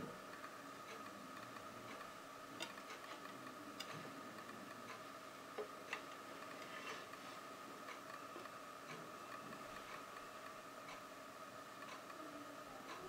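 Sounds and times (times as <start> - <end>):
high-pitched electrical hum: 0.0 - 13.0.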